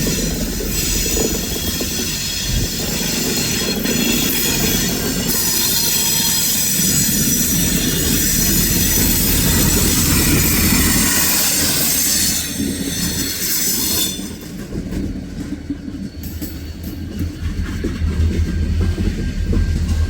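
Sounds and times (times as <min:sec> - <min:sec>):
train cars rolling past: 0:00.0 - 0:20.0
wheels squealing against rails: 0:00.0 - 0:20.0.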